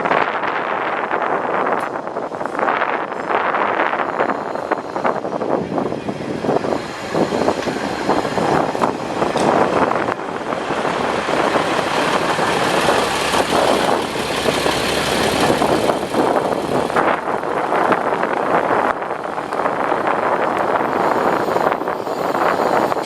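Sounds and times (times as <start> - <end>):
diesel railcar rumbling and clattering: 0.0 - 23.0.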